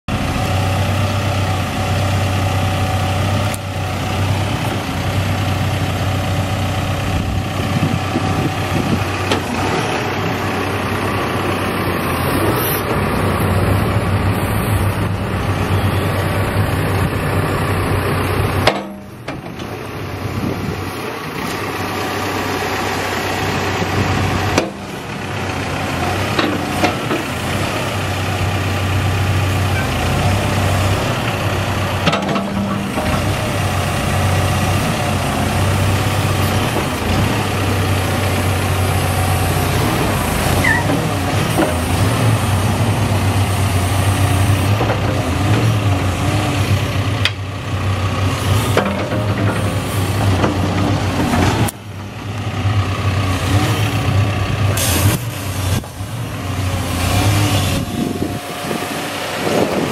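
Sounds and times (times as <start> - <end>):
diesel engine idling: 0.1 - 59.9.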